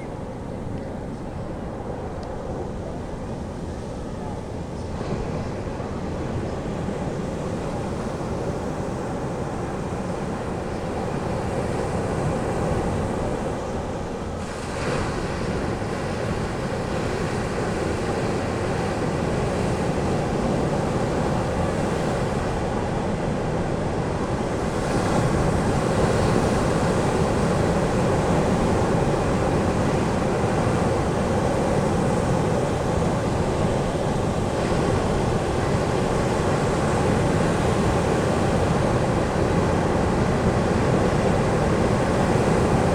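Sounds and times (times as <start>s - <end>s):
ocean waves breaking on beach: 4.6s - 42.9s.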